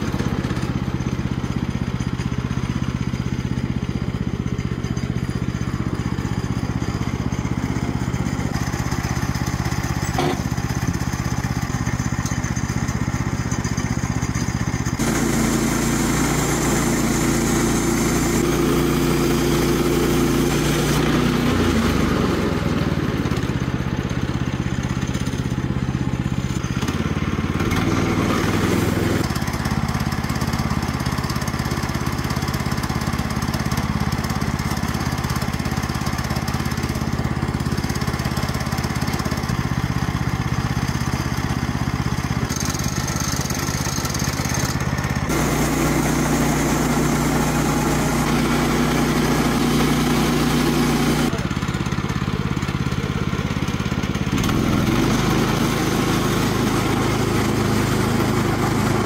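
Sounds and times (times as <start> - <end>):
small gasoline engine running: 0.0 - 59.0.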